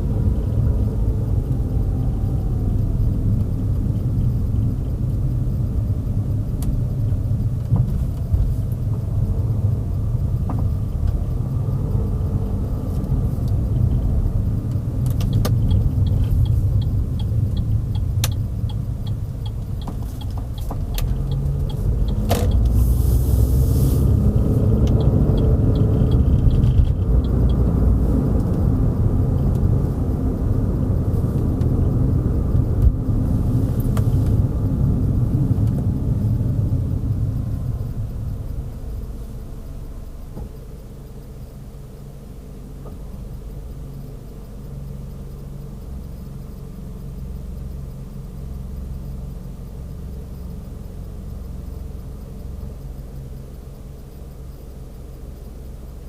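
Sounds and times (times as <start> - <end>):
car engine and road rumble: 0.0 - 56.0
light regular ticking: 0.0 - 56.0.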